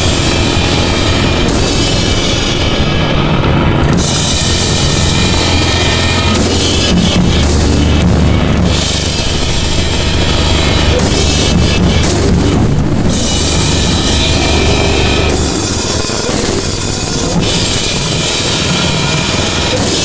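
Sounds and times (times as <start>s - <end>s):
low rumble: 0.0s - 19.7s
distorted harsh noise: 0.0s - 20.0s.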